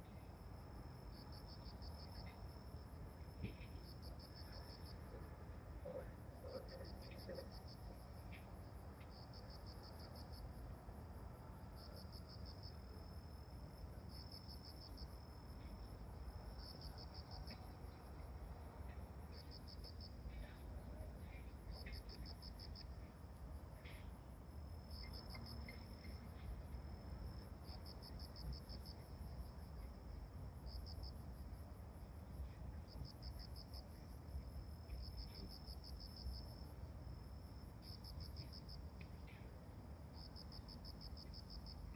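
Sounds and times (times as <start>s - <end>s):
insects chirping in trills: 0.0s - 41.9s.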